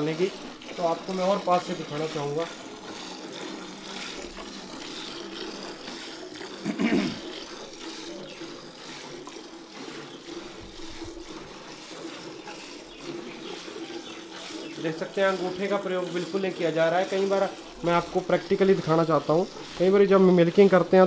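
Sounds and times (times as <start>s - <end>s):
milk squirting into metal bucket: 0.0s - 21.0s.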